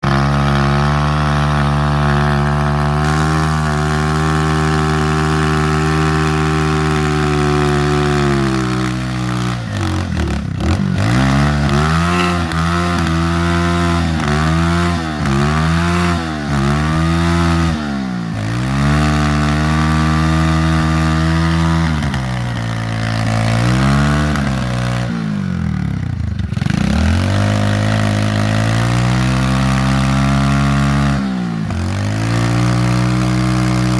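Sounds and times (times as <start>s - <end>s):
atv engine idling and revving: 0.0s - 33.9s.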